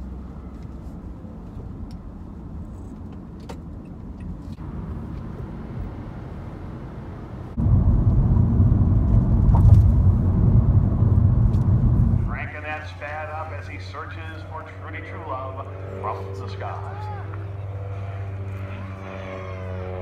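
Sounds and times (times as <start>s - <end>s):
road and engine noise: 0.0s - 20.0s
tyres rumbling at highway speed: 0.0s - 20.0s.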